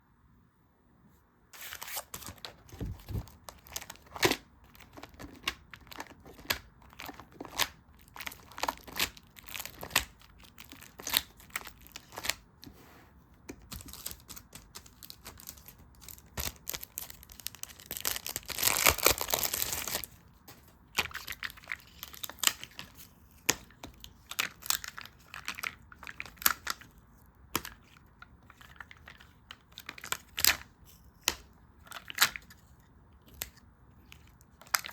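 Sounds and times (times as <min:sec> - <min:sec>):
paper crinkling and rustling: 0:01.6 - 0:34.9.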